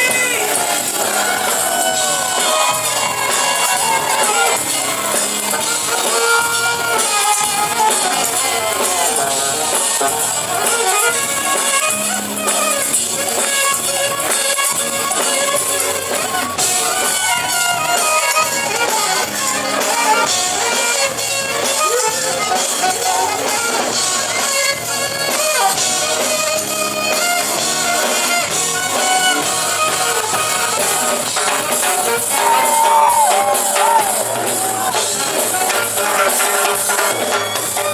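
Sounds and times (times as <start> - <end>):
live funk-pop band playing: 0.0 - 37.9.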